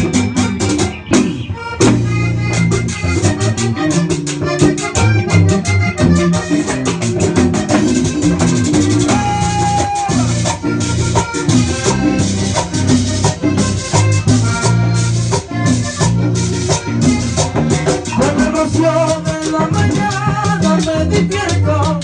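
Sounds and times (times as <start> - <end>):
accordion melody: 0.0 - 22.0
congas and timbales: 0.0 - 22.0
electric bass: 0.0 - 22.0.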